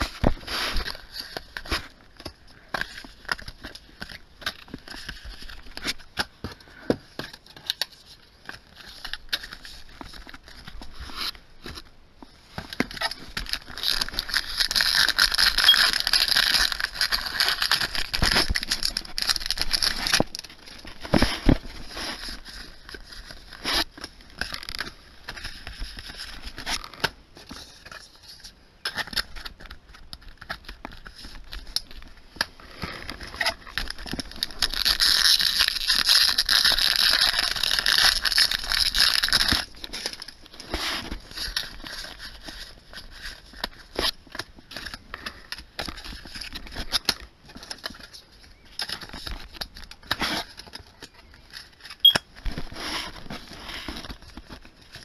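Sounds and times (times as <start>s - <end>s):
cards rustling and clicking: 0.0s - 55.0s
foil wrappers crinkling and tearing: 7.2s - 11.9s, 12.6s - 55.0s.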